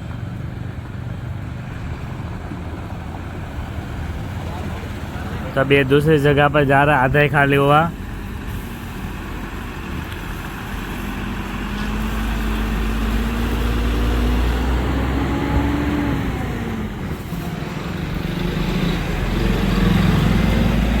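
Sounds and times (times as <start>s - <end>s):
truck diesel engine rumbling: 0.0s - 21.0s.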